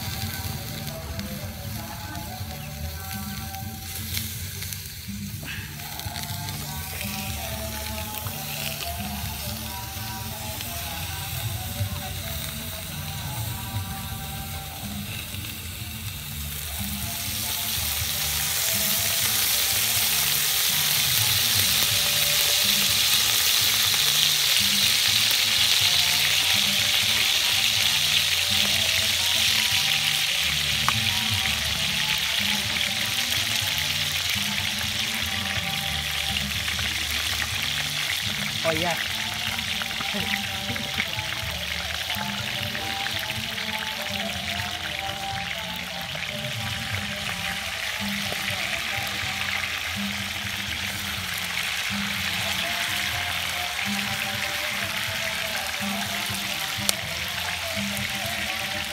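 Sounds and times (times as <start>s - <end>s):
background music: 0.0s - 58.9s
pot sizzling on fire: 0.0s - 58.9s.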